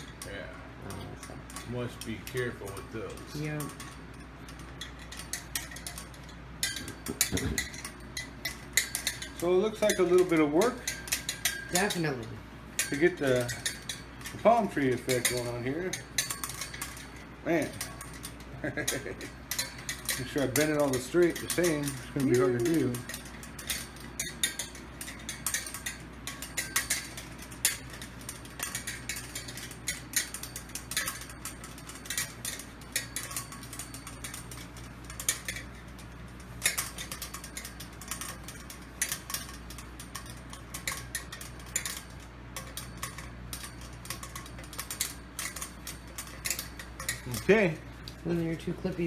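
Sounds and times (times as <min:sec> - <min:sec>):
artificial palm fronds rattling: 0:00.0 - 0:49.0.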